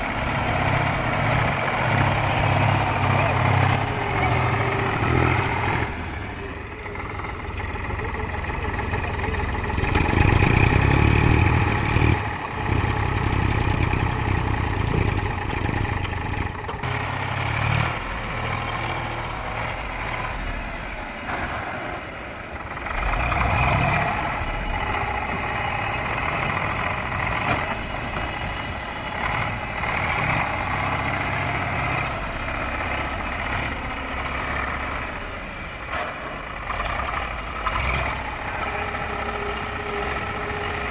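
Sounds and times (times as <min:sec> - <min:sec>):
heavy vehicle engine idling: 0:00.0 - 0:40.9.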